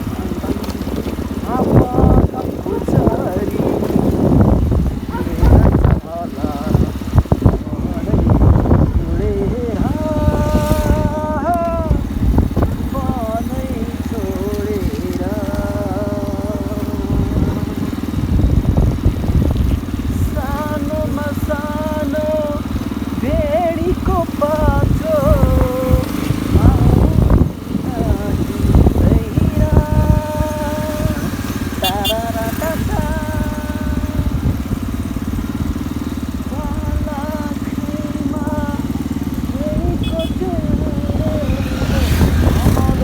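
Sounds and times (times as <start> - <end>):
person singing long notes: 0.0 - 18.6, 20.2 - 35.0, 35.9 - 43.0
motorcycle engine running: 0.0 - 43.0.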